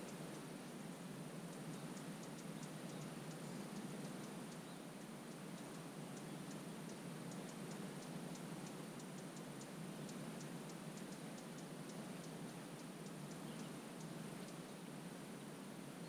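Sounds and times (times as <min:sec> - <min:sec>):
light high-pitched ticks: 0:00.0 - 0:15.0.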